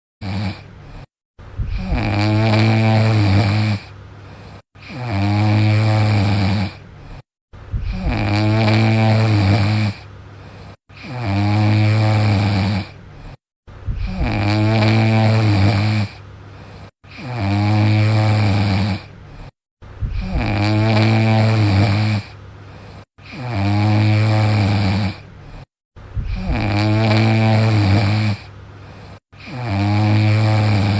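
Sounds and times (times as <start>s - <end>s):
dog snoring: 0.2s - 30.9s.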